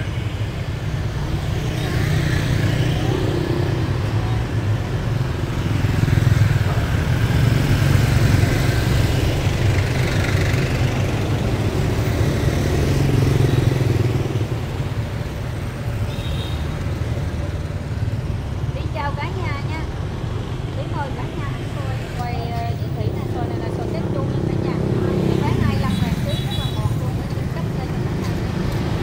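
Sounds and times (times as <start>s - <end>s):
motorbike engines passing: 0.0s - 29.0s
tyres on road: 0.0s - 29.0s.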